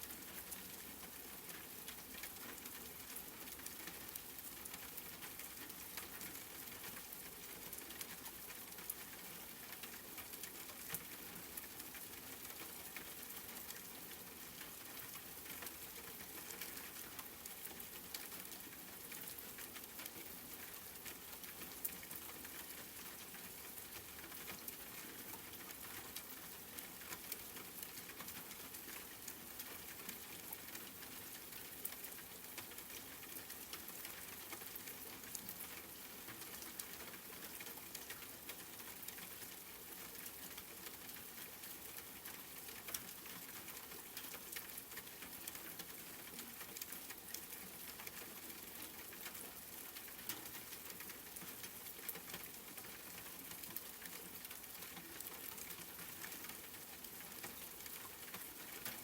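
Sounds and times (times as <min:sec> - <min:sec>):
raindrops pattering: 0:00.0 - 0:59.0
steady rain: 0:00.0 - 0:59.0.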